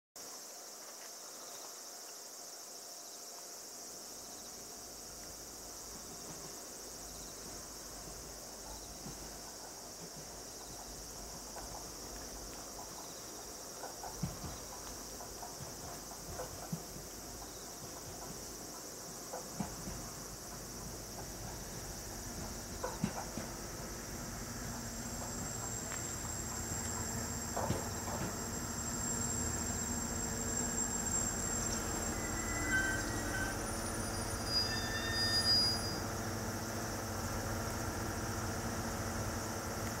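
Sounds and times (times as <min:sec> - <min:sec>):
insect chorus: 0:00.2 - 0:40.0
diesel railcar rumbling: 0:04.6 - 0:40.0.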